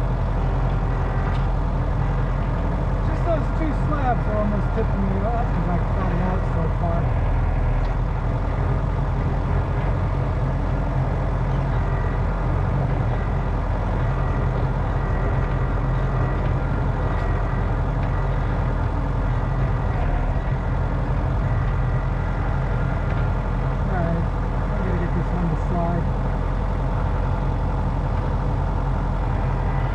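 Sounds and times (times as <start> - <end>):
engine running steadily: 0.0 - 29.9.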